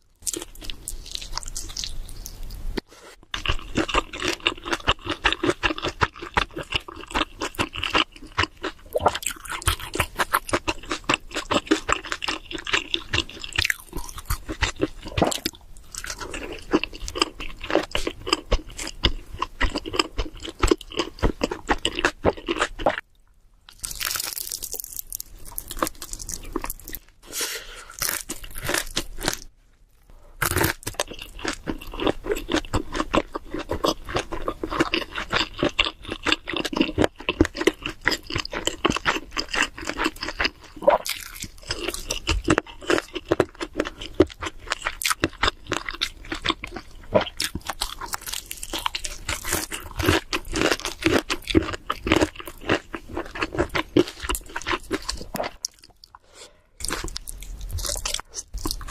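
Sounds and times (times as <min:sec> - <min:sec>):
chewing and crunching pizza: 0:00.2 - 0:27.2, 0:28.0 - 0:29.5, 0:30.4 - 0:58.9.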